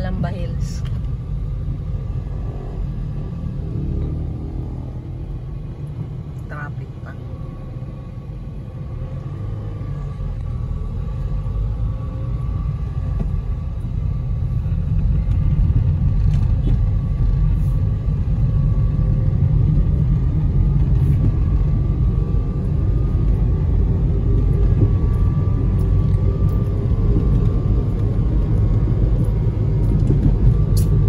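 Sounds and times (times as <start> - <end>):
car rumble from inside cabin: 0.0 - 31.0.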